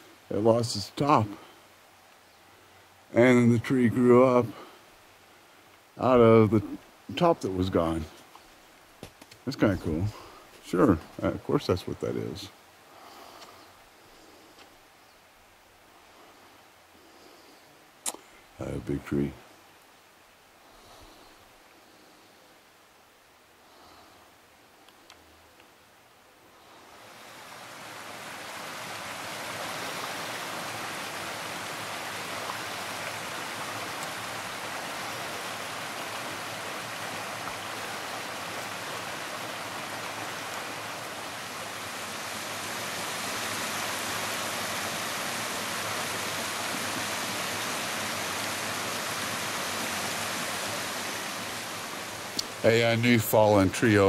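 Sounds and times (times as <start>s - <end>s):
stream water rushing: 0.0s - 16.9s, 25.8s - 54.0s.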